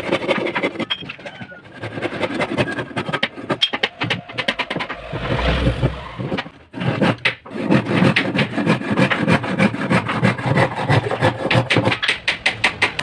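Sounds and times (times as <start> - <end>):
hand saw cutting wood: 0.0 - 13.0.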